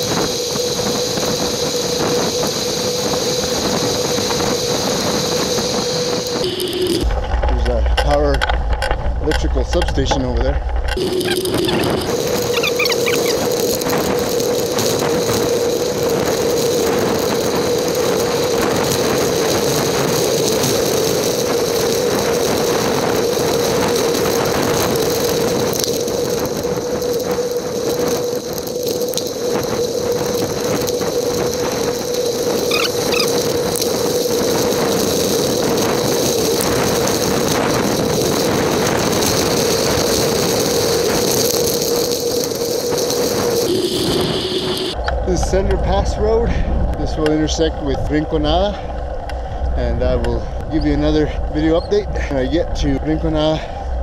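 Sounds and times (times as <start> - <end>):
constant high whine: 0.0 - 54.0
wind and tyre noise hiss: 0.0 - 54.0.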